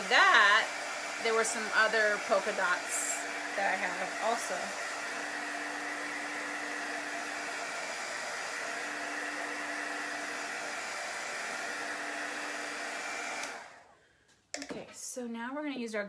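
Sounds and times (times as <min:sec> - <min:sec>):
heat gun blowing air: 0:00.0 - 0:13.9.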